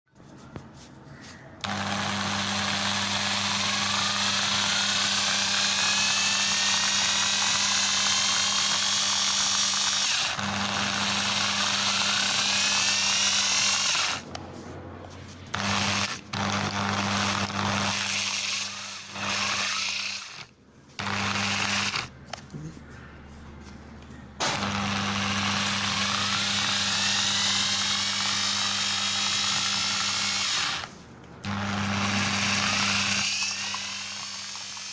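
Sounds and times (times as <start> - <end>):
electric drill grinding into chalk: 1.6 - 14.4, 15.5 - 22.1, 24.4 - 34.9.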